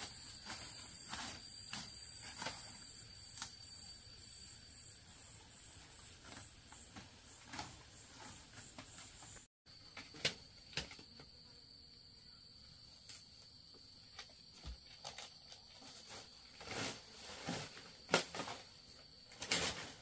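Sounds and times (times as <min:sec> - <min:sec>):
lower insect tone: 0:00.0 - 0:20.0.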